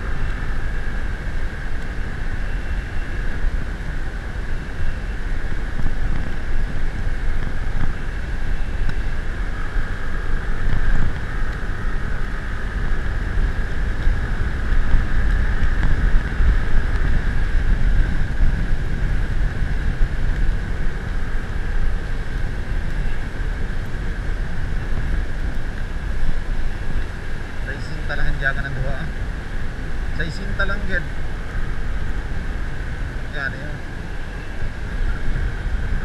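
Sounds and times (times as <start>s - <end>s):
road noise: 0.0s - 36.0s
vehicle engine drone: 0.0s - 36.0s
wind rumble on microphone: 0.0s - 36.0s.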